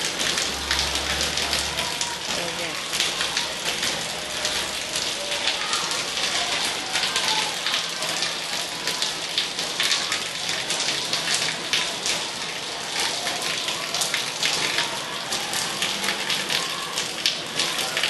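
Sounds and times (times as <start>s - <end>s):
heavy rain on concrete: 0.0s - 18.0s.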